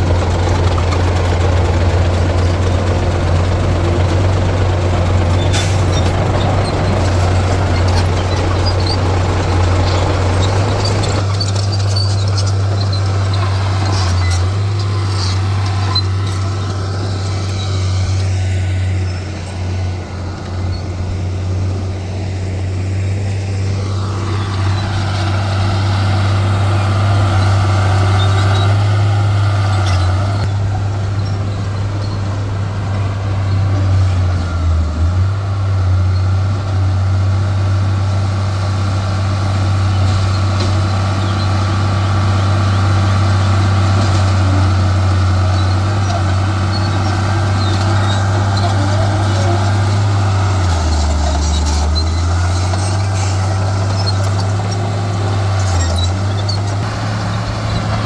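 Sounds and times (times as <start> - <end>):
diesel machine deep drone: 0.0 - 58.0.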